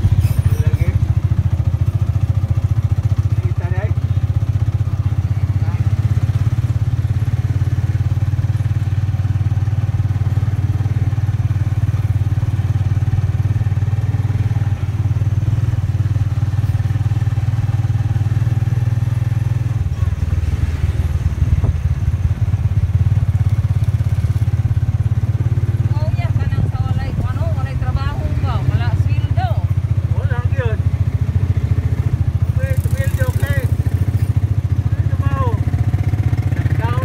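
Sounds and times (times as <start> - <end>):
small motorcycle engine droning: 0.0 - 37.0.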